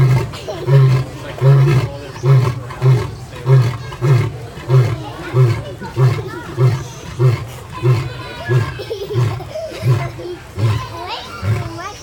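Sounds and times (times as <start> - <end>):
lion roaring: 0.0 - 11.8.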